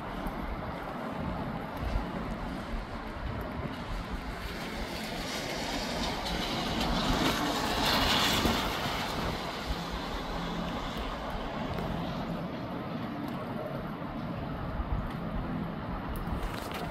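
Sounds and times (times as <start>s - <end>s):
gusty wind through trees: 0.0s - 16.9s
wind buffeting microphone: 0.0s - 16.9s.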